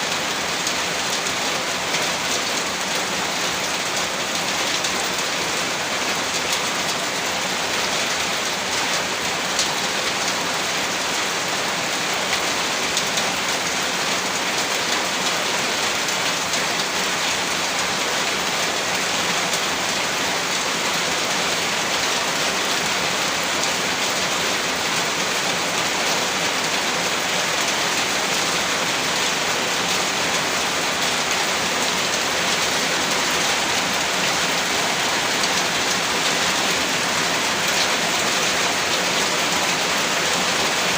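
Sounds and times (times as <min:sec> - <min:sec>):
heavy rain patter: 0:00.0 - 0:40.9.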